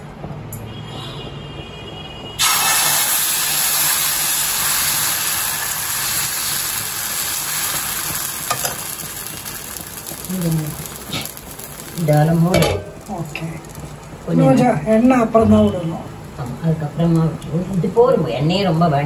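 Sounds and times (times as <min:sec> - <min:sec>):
batter sizzling on hot griddle: 0:02.4 - 0:19.0.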